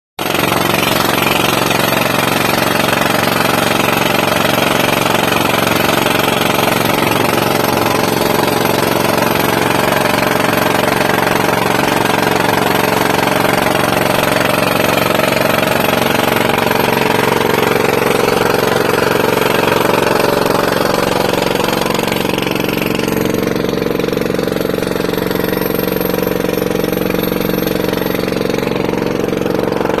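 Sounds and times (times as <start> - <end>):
engine droning: 0.2 - 30.0
pneumatic drill hammering: 0.2 - 30.0.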